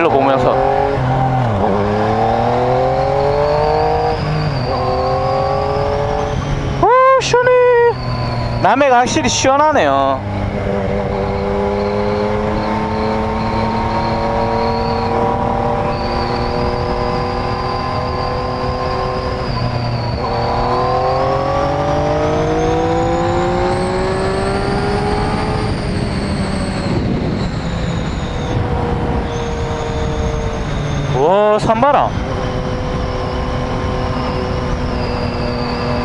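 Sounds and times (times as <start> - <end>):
motorcycle engine accelerating: 0.0 - 36.0
wind rush on microphone: 0.0 - 36.0.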